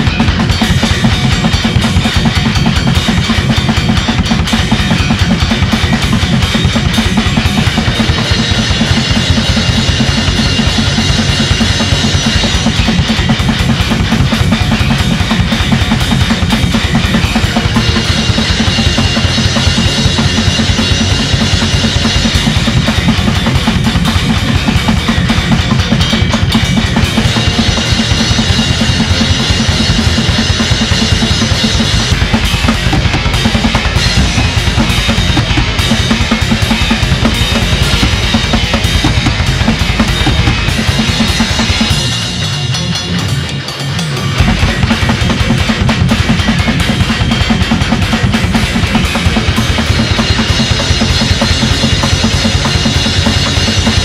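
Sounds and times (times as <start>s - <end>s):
fast drum kit beat: 0.0s - 54.0s
full band music: 0.0s - 54.0s
high steady music layer: 0.0s - 54.0s.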